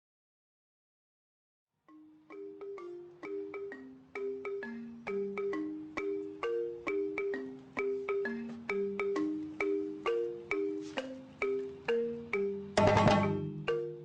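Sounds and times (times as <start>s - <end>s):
mallet percussion melody: 1.9s - 14.0s.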